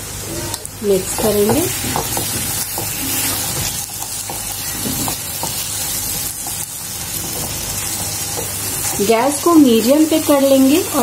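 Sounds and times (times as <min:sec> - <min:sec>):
frying hiss in hot oil: 0:00.0 - 0:11.0.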